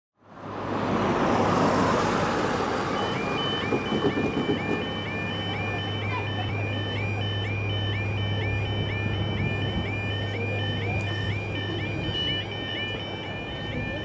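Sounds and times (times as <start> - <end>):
road traffic: 0.2 - 14.0
level crossing warbling alarm: 2.0 - 14.0.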